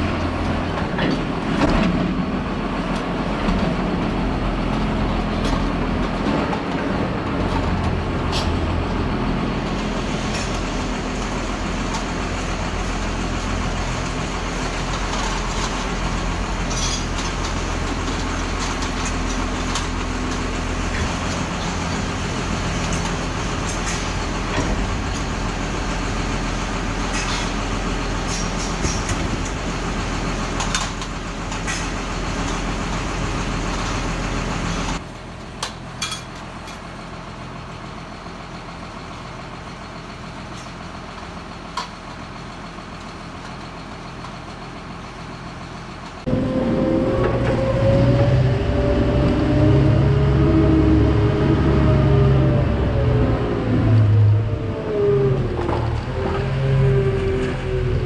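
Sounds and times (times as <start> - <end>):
mixer wagon engine running: 0.0 - 58.0.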